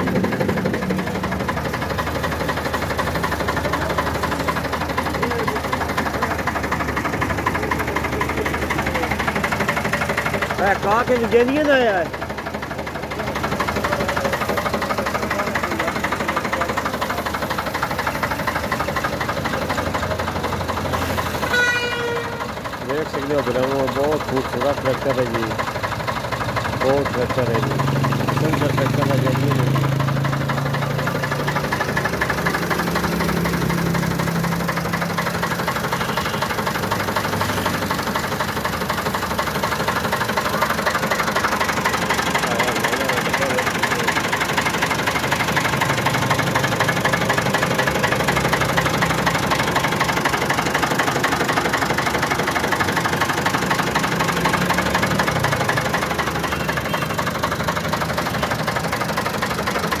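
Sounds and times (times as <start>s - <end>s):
tractor diesel engine idling: 0.0s - 60.0s.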